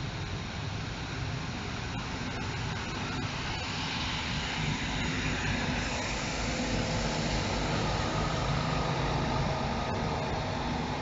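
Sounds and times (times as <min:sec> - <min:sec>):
diesel engine hum: 0:00.0 - 0:11.0
rolling wheel and rail noise: 0:01.0 - 0:11.0.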